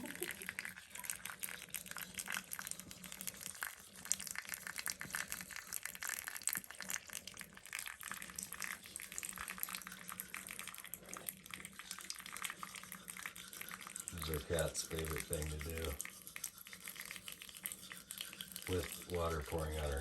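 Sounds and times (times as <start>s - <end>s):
tap water running: 0.0s - 20.0s.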